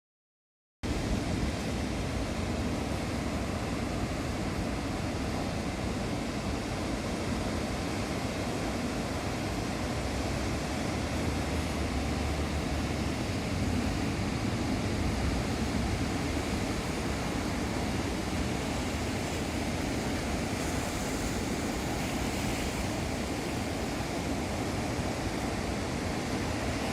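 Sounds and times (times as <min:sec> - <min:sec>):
ocean surf breaking: 0:00.9 - 0:26.9.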